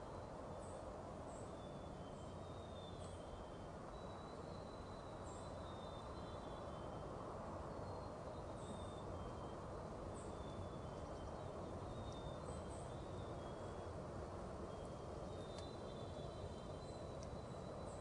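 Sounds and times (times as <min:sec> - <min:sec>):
songbirds calling: 0:00.0 - 0:18.0
steady low background noise: 0:00.0 - 0:18.0.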